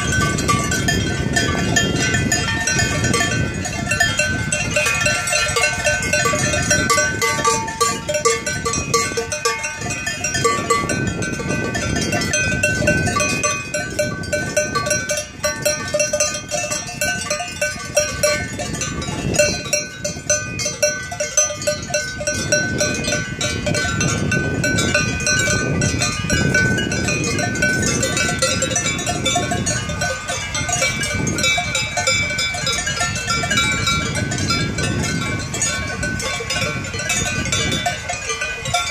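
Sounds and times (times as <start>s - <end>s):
cowbells clanging: 0.0s - 38.9s.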